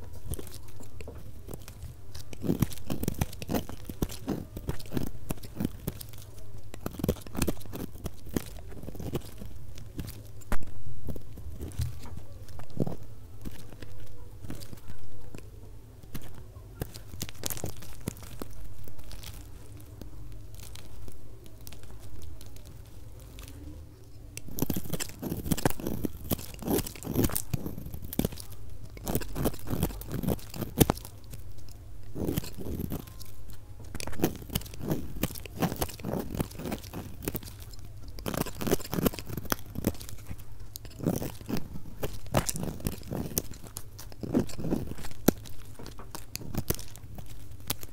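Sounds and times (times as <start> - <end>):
blade cutting soap crunching: 0.0 - 47.9.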